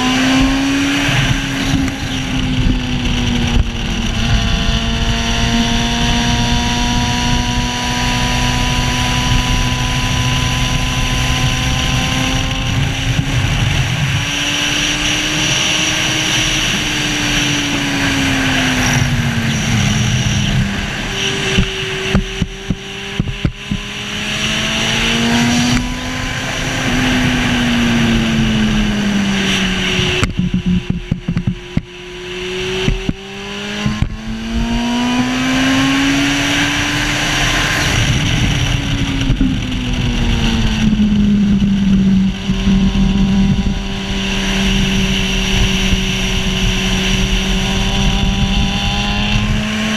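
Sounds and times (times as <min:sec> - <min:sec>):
engine running hard: 0:00.0 - 0:49.9
wind rushing over microphone: 0:00.0 - 0:49.9.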